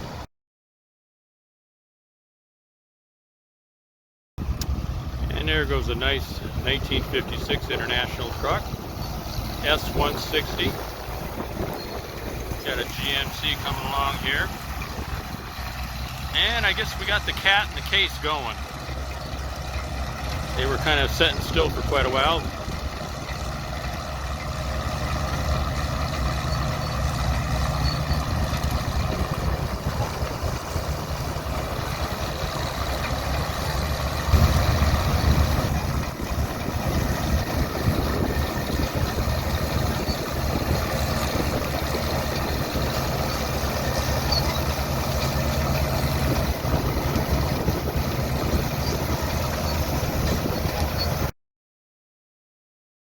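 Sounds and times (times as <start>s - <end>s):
tractor engine hum: 4.4s - 51.3s.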